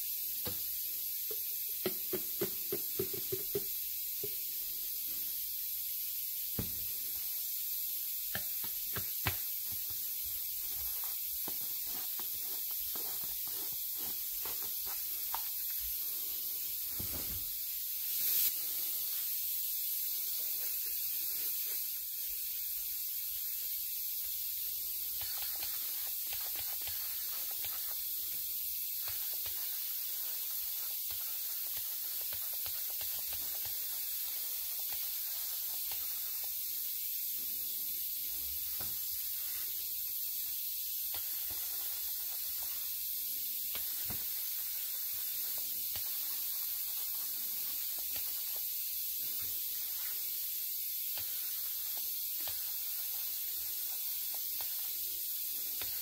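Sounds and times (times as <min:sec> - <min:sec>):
spray gun air hissing: 0:00.0 - 0:56.0.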